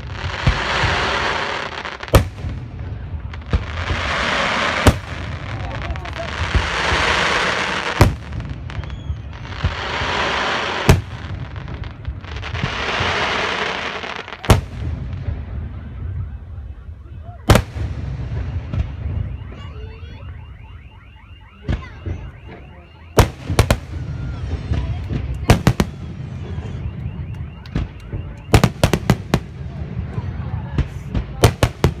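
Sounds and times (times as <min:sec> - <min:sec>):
fireworks hissing and crackling: 0:00.0 - 0:15.7, 0:21.7 - 0:32.0.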